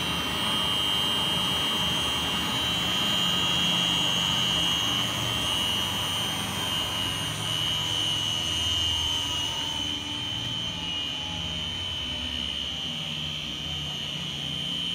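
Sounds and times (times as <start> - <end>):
mixer motor whining: 0.0 - 14.9.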